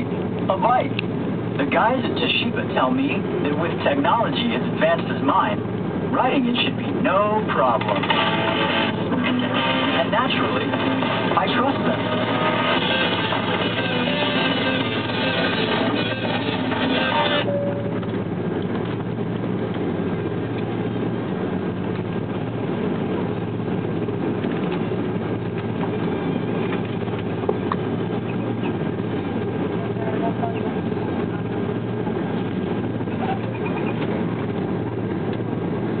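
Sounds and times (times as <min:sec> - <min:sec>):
jet engines humming in cabin: 0:00.0 - 0:36.0.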